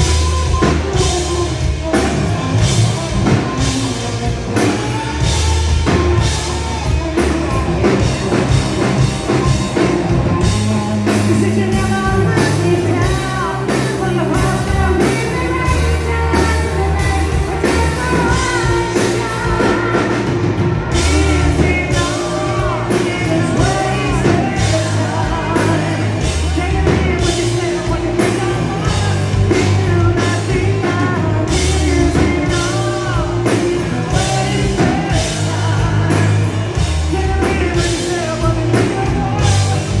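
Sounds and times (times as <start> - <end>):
hard rock band playing loud: 0.0 - 40.0
lead vocals singing: 0.0 - 40.0.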